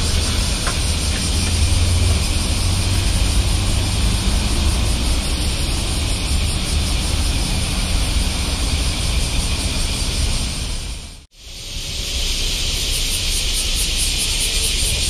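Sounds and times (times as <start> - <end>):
cicada chorus buzzing: 0.0 - 15.0
road traffic rumble: 0.0 - 15.0.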